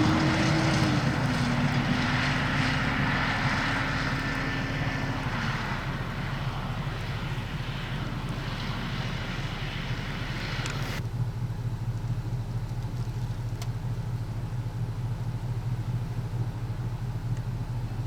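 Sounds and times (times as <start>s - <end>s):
road noise hiss: 0.0s - 18.0s
vehicle engine low hum: 0.0s - 18.0s.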